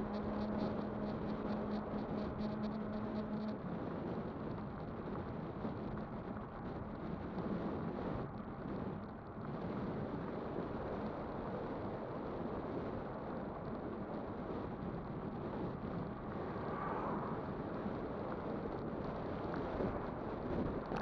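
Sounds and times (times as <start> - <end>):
road rumble: 0.0 - 21.0
wind on microphone: 0.0 - 21.0.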